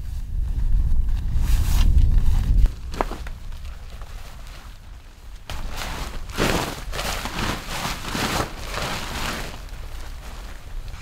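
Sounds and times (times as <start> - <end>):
fabric rustling and flapping: 0.0 - 11.0.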